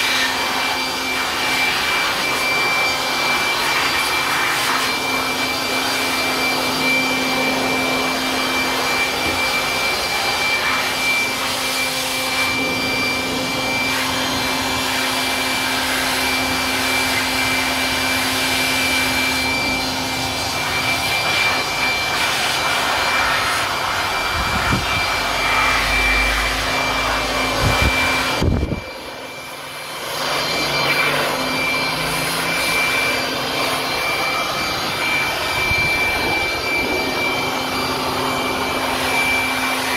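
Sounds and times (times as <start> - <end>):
electric air blower running: 0.0 - 39.9.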